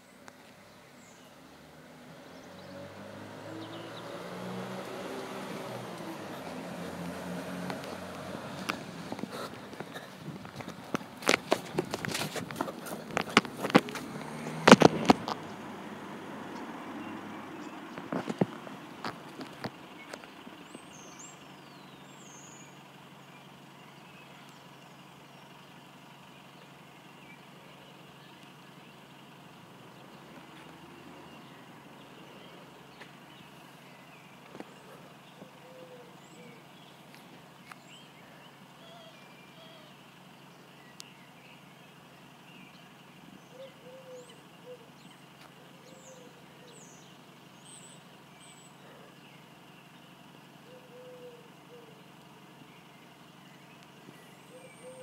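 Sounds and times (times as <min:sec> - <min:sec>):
bird chirping: 0:00.0 - 0:25.6, 0:26.3 - 0:55.0
distant bus engine idling: 0:00.0 - 0:55.0
distant traffic hum: 0:00.0 - 0:55.0.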